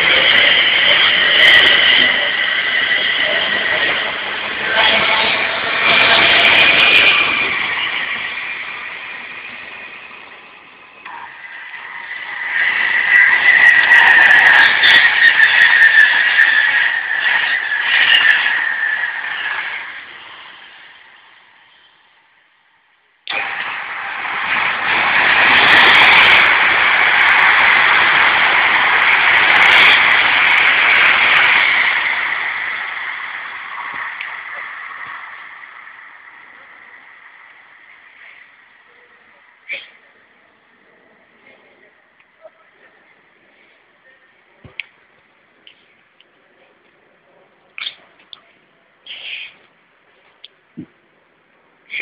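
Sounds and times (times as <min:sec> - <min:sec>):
electric train passing: 0:00.0 - 0:47.6.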